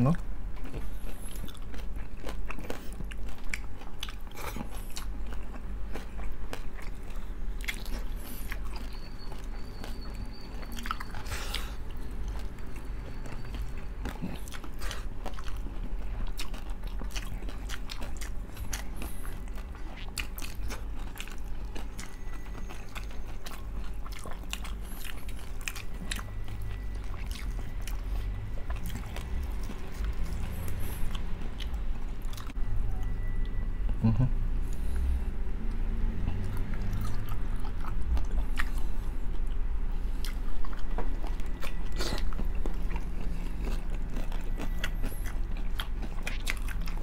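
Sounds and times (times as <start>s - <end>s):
chewing and crunching crispy food: 0.0s - 35.0s, 35.6s - 47.0s.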